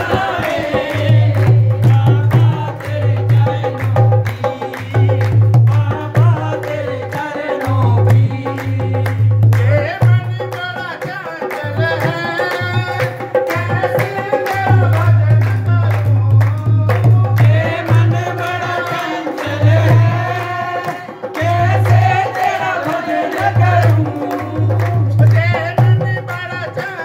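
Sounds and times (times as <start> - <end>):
dholak drum beating: 0.0 - 27.0
hand claps: 0.0 - 27.0
person singing devotional song: 0.0 - 27.0.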